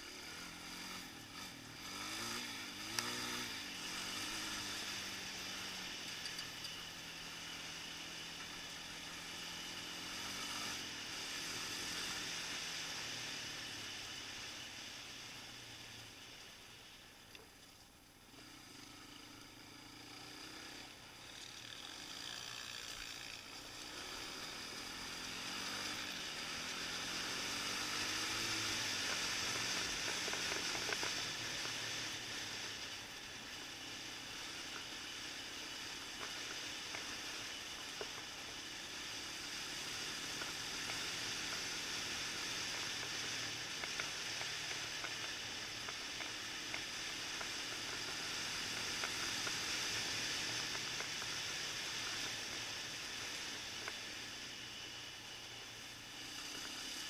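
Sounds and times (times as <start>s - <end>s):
quad engine accelerating: 0.0s - 57.0s.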